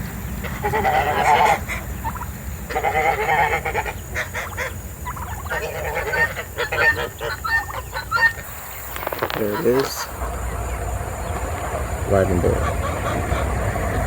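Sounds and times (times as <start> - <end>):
guinea fowl calling: 0.0 - 14.0.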